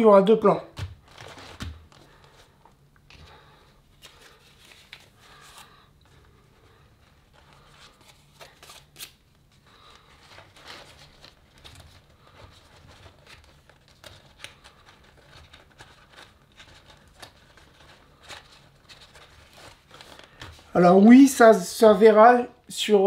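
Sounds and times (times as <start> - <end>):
thin vinyl rustling and crinkling: 0.7 - 21.1.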